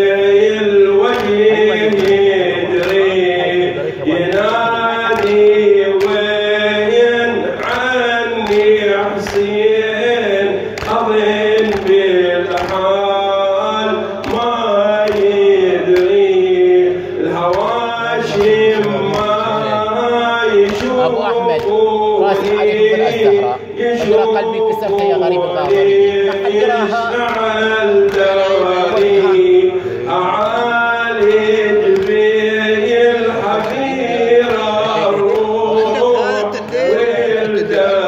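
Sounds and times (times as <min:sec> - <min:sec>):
man chanting through microphone: 0:00.0 - 0:38.0.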